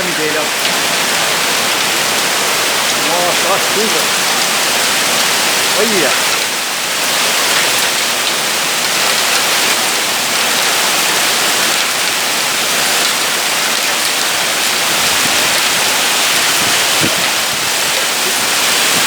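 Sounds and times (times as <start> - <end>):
hail falling: 0.0 - 19.0
heavy rain pouring: 0.0 - 19.0.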